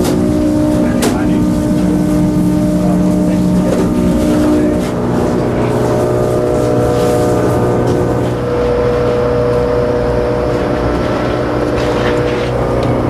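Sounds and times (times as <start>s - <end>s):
ship machinery drone: 0.0s - 13.0s.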